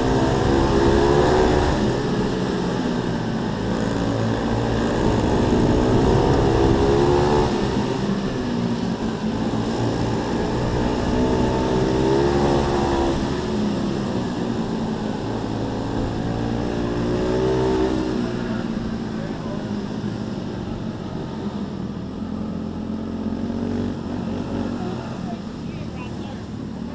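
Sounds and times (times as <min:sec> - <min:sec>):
pit bike engines racing: 0:00.0 - 0:26.9.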